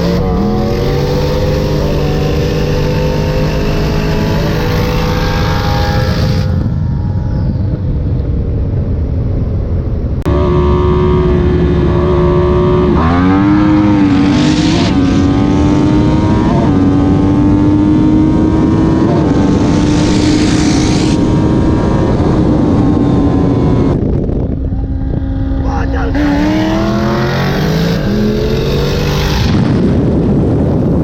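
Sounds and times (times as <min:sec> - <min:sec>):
race engine at full throttle: 0:00.0 - 0:31.0.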